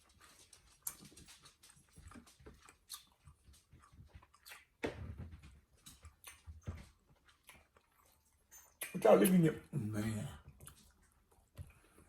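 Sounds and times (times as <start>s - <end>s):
chewing and mouth sounds: 0.0s - 5.0s, 5.7s - 9.7s, 10.4s - 12.0s.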